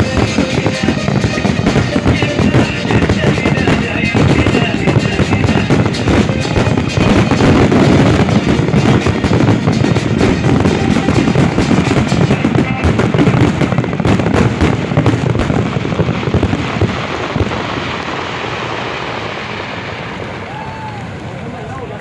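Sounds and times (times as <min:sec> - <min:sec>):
fireworks crackling bangs: 0:00.0 - 0:22.0.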